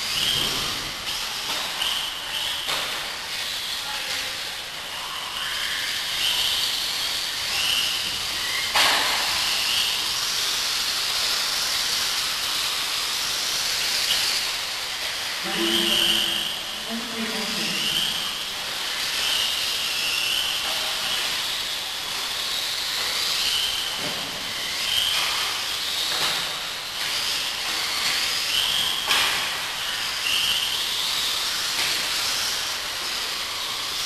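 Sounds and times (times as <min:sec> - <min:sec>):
high motor whines: 0:00.0 - 0:34.0
rc car motors and tyres hissing: 0:00.0 - 0:34.0.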